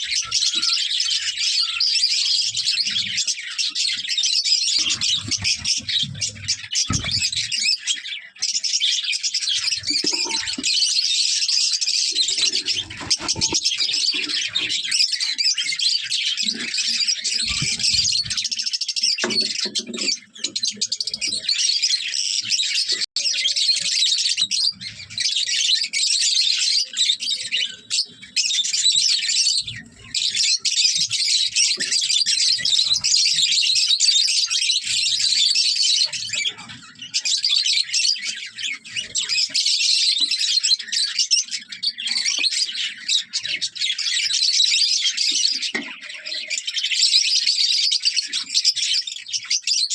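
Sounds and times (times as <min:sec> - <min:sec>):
flock of birds chirping: 0:00.0 - 0:49.9.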